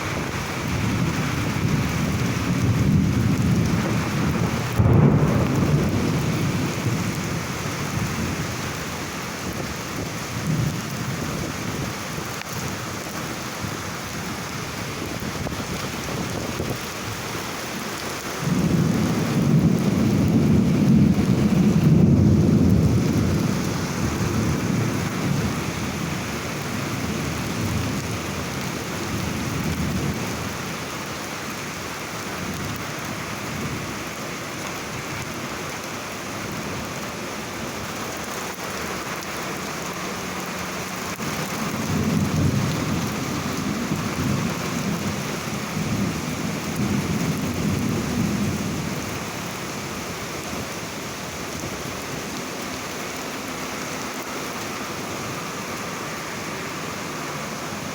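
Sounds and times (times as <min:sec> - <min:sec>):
thunder rumbling: 0:00.0 - 0:35.8, 0:36.4 - 0:57.9
steady rain falling: 0:00.0 - 0:57.9.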